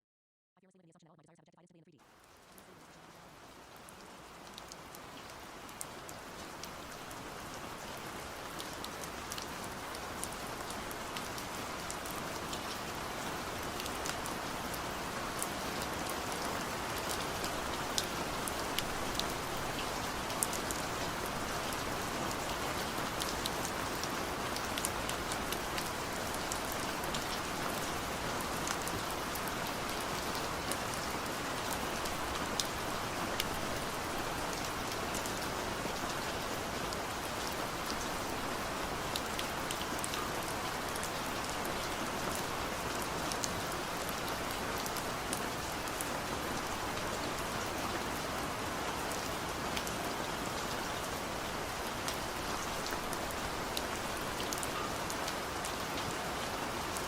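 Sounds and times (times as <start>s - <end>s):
steady rain falling: 2.0s - 57.0s.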